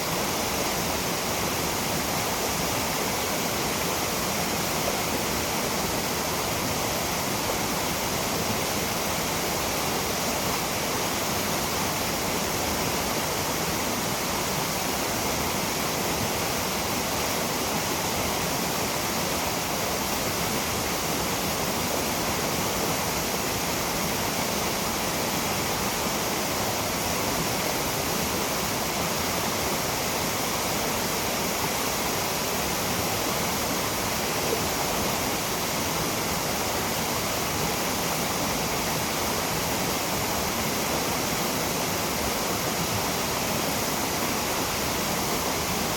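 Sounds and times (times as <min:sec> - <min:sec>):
waterfall splashing: 0:00.0 - 0:45.9.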